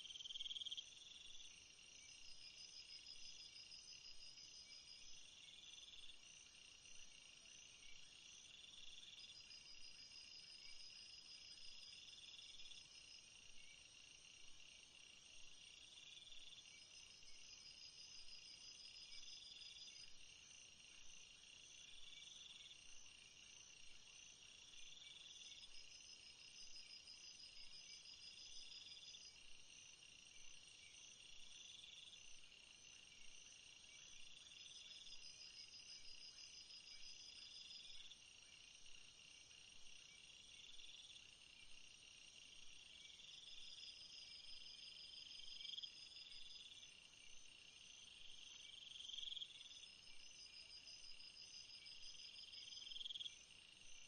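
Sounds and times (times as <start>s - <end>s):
chorus of high-pitched insects: 0.0s - 54.0s.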